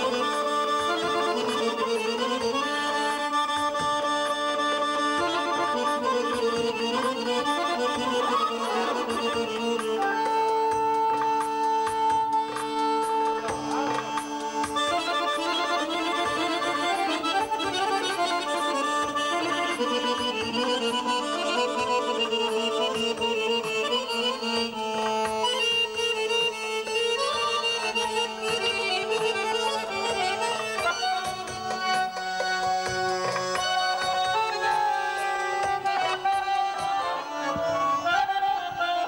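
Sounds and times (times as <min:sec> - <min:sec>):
button accordion playing a fast tune: 0:00.0 - 0:39.0.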